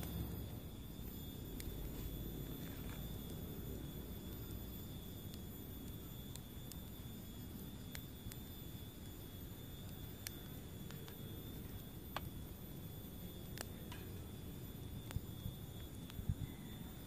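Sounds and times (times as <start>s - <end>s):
campfire crackling: 0.0s - 17.0s
low steady rumble: 0.0s - 17.0s
sharp pops from burning sticks: 0.0s - 17.0s.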